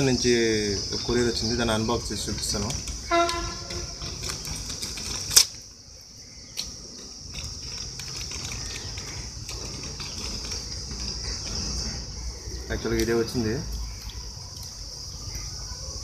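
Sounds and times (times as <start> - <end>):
high-pitched insect chirring: 0.0 - 16.0.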